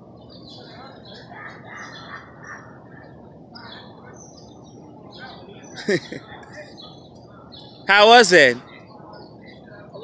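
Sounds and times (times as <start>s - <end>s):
city street traffic hum: 0.0s - 10.0s
small birds chirping: 0.0s - 10.0s.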